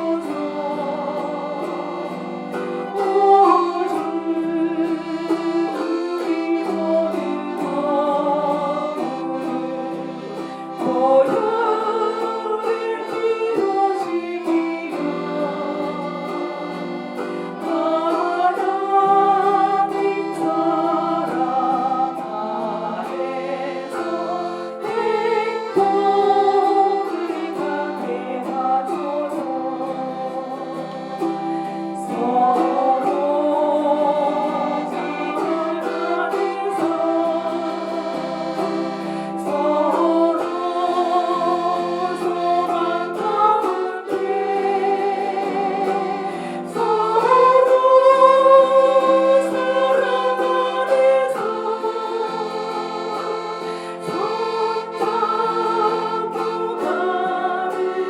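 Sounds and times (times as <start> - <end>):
accordion: 0.0 - 58.0
chromaharps strummed: 0.0 - 58.0
group singing a hymn: 0.0 - 58.0.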